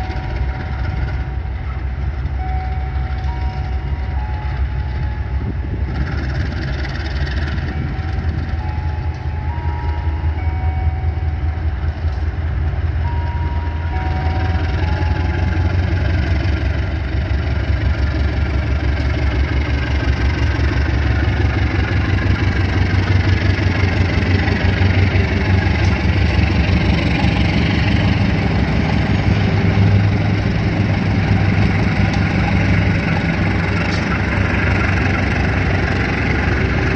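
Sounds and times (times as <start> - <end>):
locomotive engine rumbling: 0.0 - 36.9.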